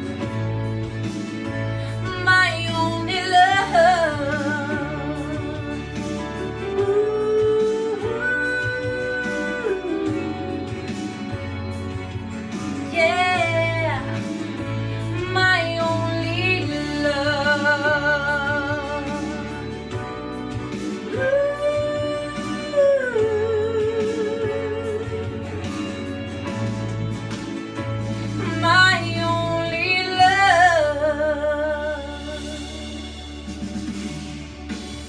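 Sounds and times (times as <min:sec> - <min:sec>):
guitar: 0:00.0 - 0:35.0
steady bass line: 0:00.0 - 0:35.0
woman singing with vibrato: 0:01.8 - 0:12.0, 0:12.8 - 0:26.4, 0:28.4 - 0:33.2.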